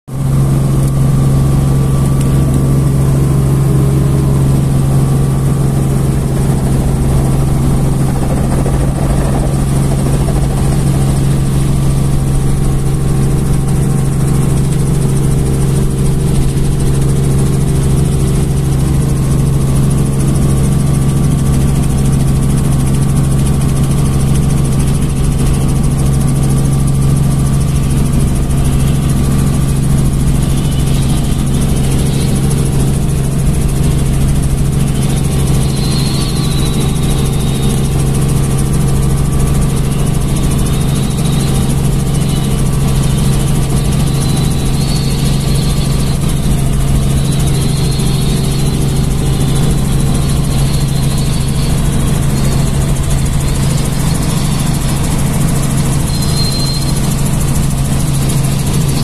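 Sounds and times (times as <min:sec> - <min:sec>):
rotorcraft engine and rotor drone: 0:00.1 - 0:59.0.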